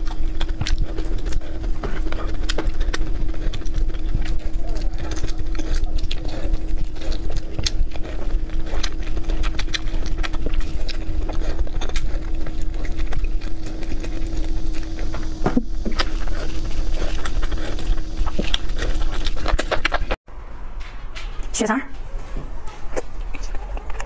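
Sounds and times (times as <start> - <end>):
lip smacks: 0.0 - 20.2, 22.9 - 24.0
slurping: 0.0 - 20.2
wet chewing: 0.0 - 20.2, 22.6 - 24.0
steady hum: 0.0 - 21.8.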